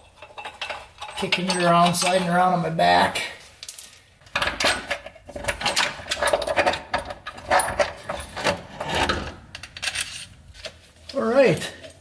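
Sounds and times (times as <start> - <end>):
metal tools clinking: 0.0 - 12.0.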